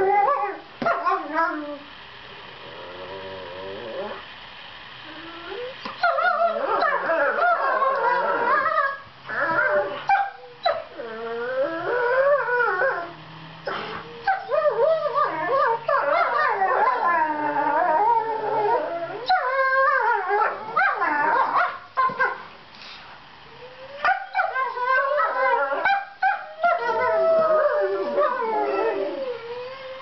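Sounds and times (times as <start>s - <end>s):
puppies whining and howling: 0.0s - 1.9s, 5.0s - 22.4s, 23.5s - 30.0s.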